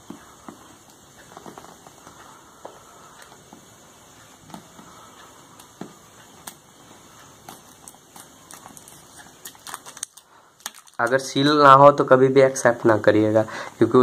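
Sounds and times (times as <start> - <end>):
low hiss: 0.0 - 14.0.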